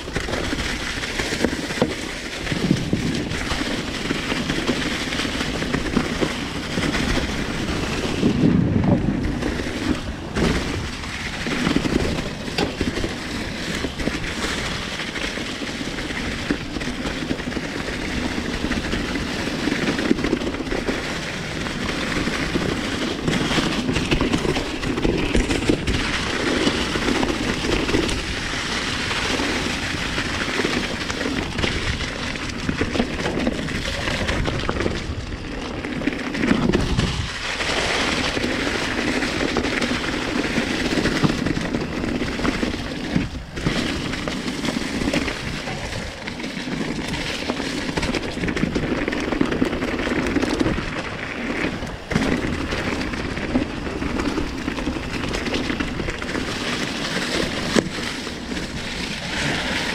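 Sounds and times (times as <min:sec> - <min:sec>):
bike rattling: 0:00.0 - 0:59.9
bike tyres crunching leaves: 0:00.0 - 0:59.9
wind rumble on microphone: 0:00.0 - 0:59.9.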